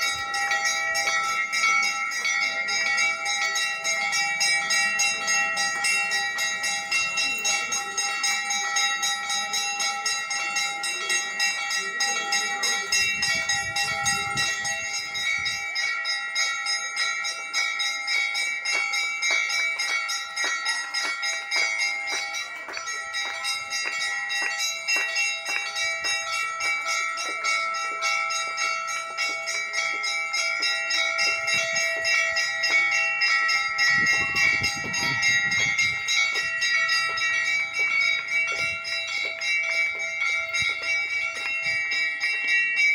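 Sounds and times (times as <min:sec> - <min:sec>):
temple bells ringing rapidly: 0:00.0 - 0:42.9.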